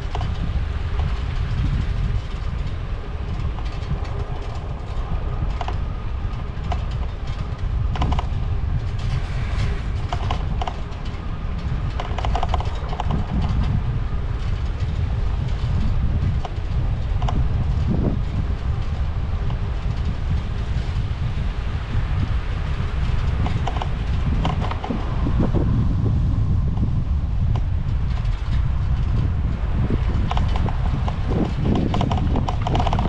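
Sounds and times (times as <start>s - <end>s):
bicycle ticks and rattles: 0.0s - 33.0s
wind rumbling on microphone: 0.0s - 33.0s.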